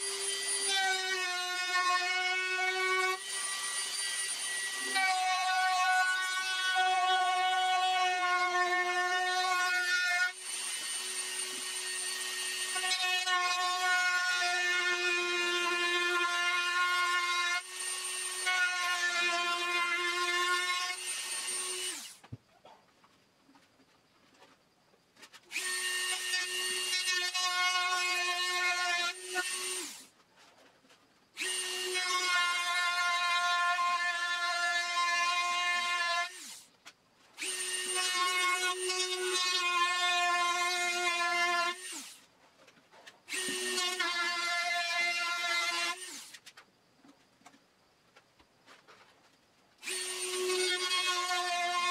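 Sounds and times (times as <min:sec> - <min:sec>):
rotary tool whining on wood: 0:00.0 - 0:22.4, 0:24.3 - 0:47.6, 0:48.7 - 0:51.9.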